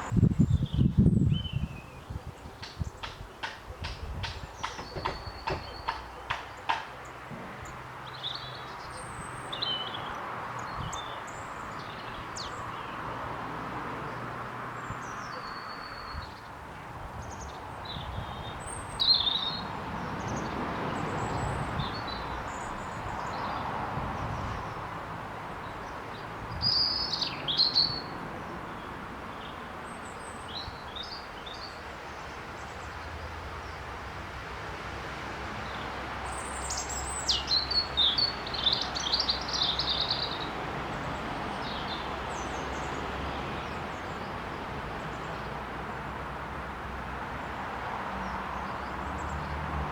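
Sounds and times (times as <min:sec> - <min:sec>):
small birds chirping: 0:00.0 - 0:13.1, 0:14.8 - 0:24.9, 0:25.6 - 0:33.8, 0:35.6 - 0:44.4.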